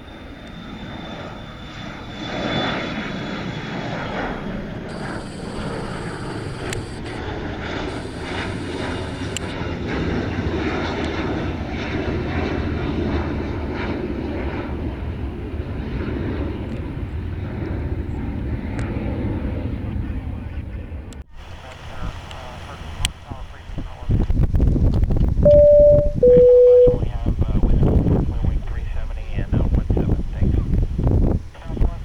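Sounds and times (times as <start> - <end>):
jet airliner engines rumbling: 0.0 - 24.8, 25.4 - 32.0.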